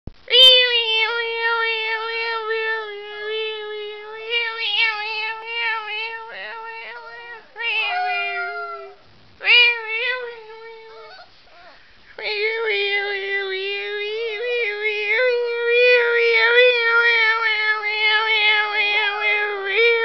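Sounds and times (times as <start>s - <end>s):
small dog howling: 0.3s - 20.0s.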